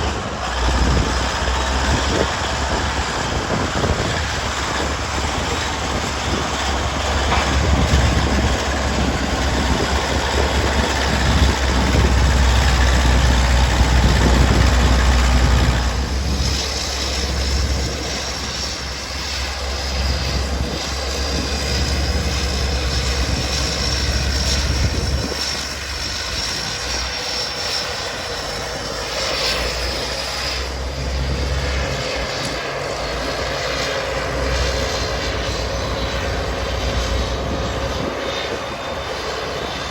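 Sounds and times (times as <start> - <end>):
diesel tractor engine rumble: 0.0 - 39.9.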